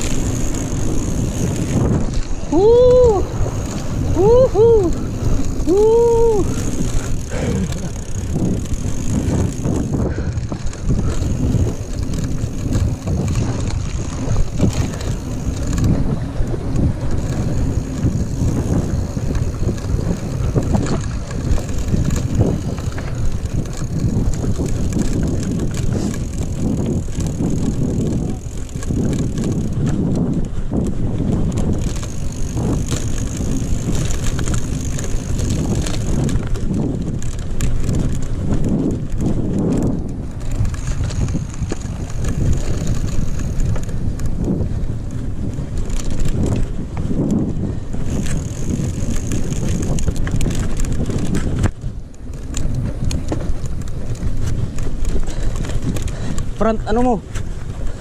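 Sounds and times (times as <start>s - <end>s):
bike knocks and rattles: 0.0s - 58.0s
tyres rumbling on loose dirt: 0.0s - 58.0s
wind buffeting microphone: 0.0s - 58.0s.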